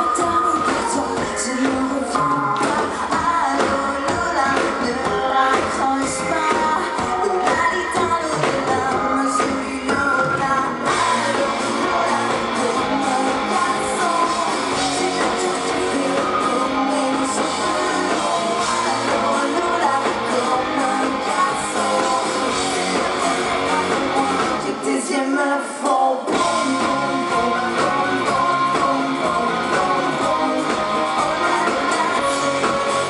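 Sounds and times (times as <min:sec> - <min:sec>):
pop-rock band playing: 0:00.0 - 0:33.0
woman singing: 0:00.0 - 0:33.0.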